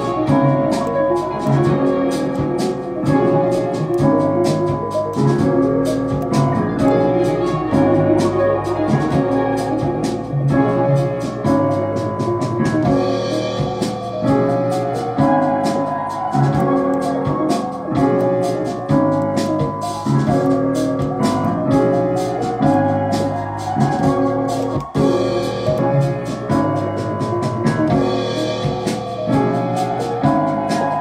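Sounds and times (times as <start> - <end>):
drums: 0.0 - 31.0
fast hi-hat ticks: 0.0 - 31.0
sustained chords: 0.0 - 31.0.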